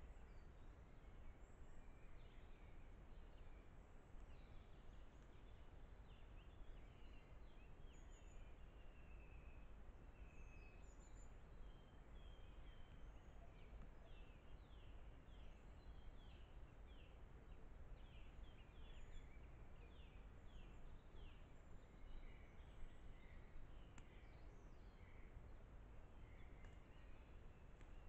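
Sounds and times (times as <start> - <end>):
woodland birdsong: 0.0 - 28.0.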